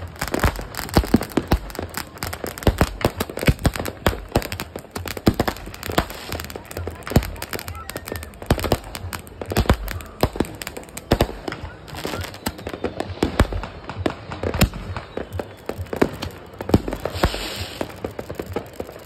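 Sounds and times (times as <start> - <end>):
fireworks crackle: 0.0 - 19.0
fireworks popping and banging: 0.0 - 19.0.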